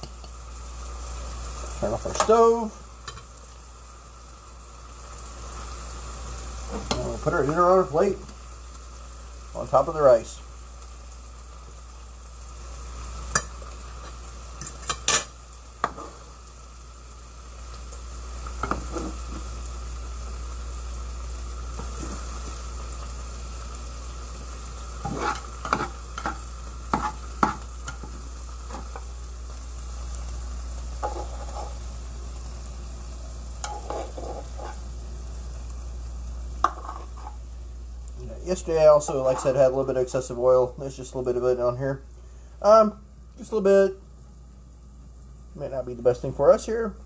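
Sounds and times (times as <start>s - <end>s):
frying pan sizzling: 0.0s - 47.0s.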